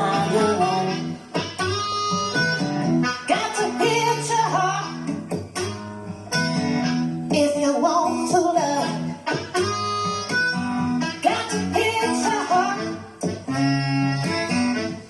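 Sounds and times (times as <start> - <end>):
music through speaker: 0.0 - 15.0.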